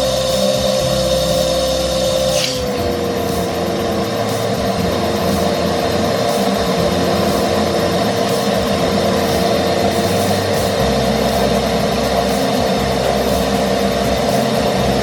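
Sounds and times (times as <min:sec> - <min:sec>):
vacuum cleaner motor whining: 0:00.0 - 0:15.0.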